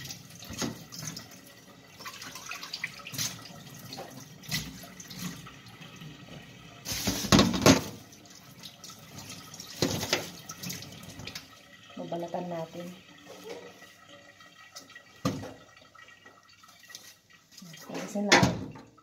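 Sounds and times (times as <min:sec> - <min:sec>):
tap water splashing into sink: 0:00.0 - 0:19.0.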